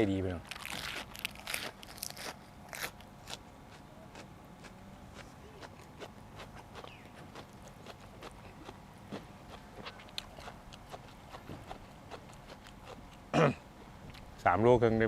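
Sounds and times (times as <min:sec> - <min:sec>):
man chewing wetly: 0:00.5 - 0:13.4, 0:14.1 - 0:14.3.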